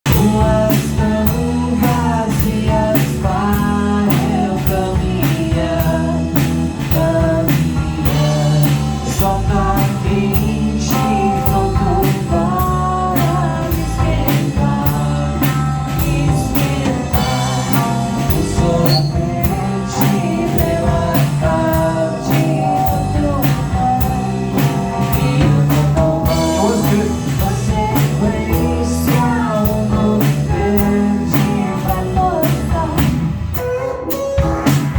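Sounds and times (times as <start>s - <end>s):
drum kit beat: 0.0s - 34.9s
heavy bass: 0.0s - 34.9s
person singing: 0.1s - 34.9s.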